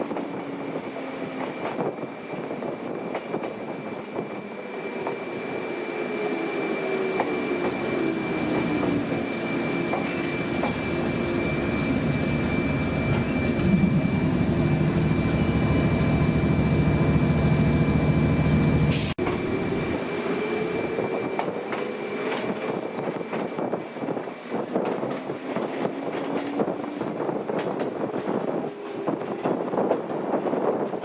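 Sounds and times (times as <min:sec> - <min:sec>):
electric train whining on rails: 0:00.0 - 0:31.0
uneven train rumble: 0:00.0 - 0:31.0.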